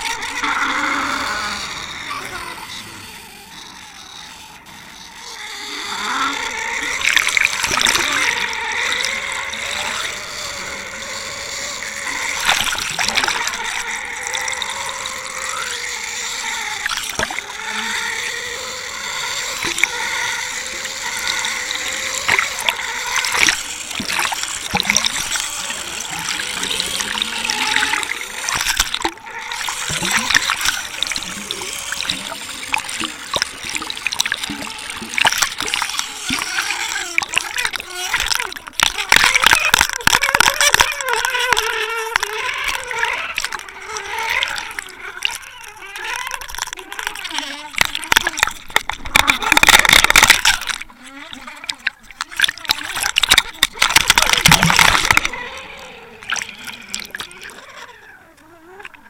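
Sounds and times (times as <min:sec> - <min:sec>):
water rushing past camera: 0:00.0 - 0:59.0
wavering tones: 0:00.0 - 0:59.0.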